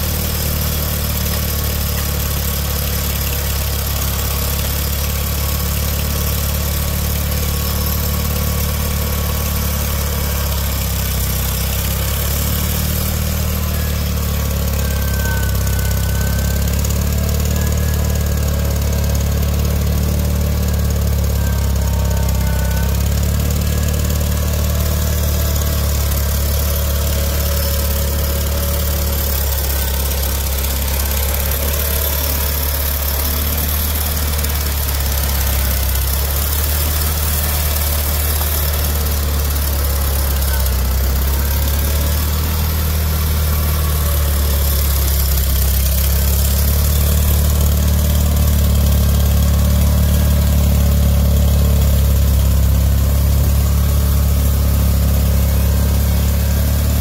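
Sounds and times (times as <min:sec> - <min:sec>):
garden tractor engine running: 0:00.0 - 0:57.0.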